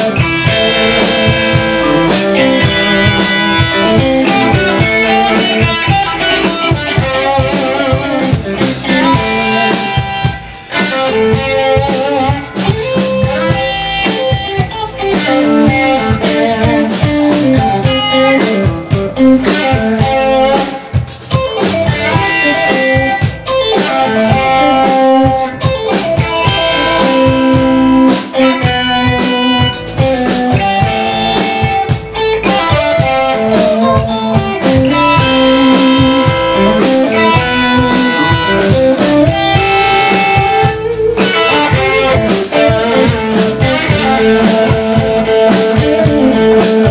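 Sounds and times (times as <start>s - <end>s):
drum kit: 0.0s - 46.9s
electric bass: 0.0s - 46.9s
electric guitar lead lines: 0.0s - 46.9s.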